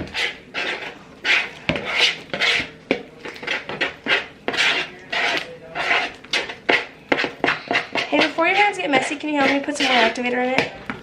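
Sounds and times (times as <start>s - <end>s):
slime stirred in a bowl: 0.0s - 11.0s.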